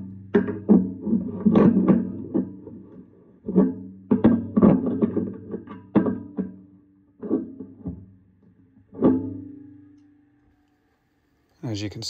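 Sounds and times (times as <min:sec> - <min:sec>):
plucked guitar notes: 0:00.0 - 0:10.2.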